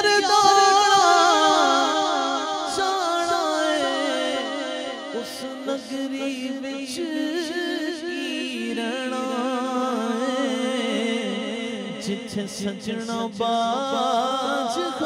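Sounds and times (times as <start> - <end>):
man singing melismatic notes: 0.0 - 15.0.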